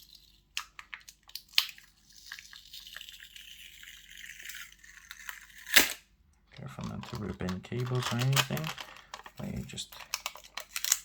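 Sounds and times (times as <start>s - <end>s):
adhesive backing crackling: 0.0s - 11.0s.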